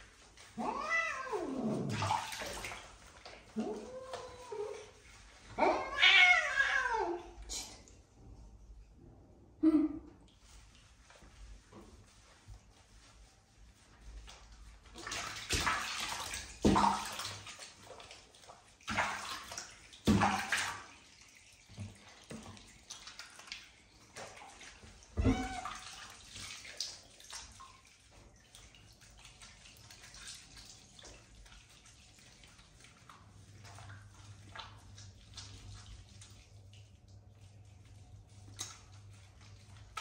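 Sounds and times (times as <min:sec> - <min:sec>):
running sloshing water: 0:00.0 - 0:08.1, 0:10.3 - 0:40.0
water splashing in a bathtub: 0:00.0 - 0:40.0.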